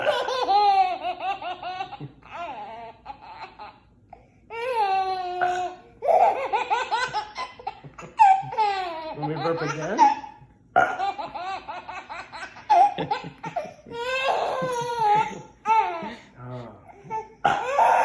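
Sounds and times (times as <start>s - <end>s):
baby giggling: 0.0s - 3.8s, 4.5s - 16.3s.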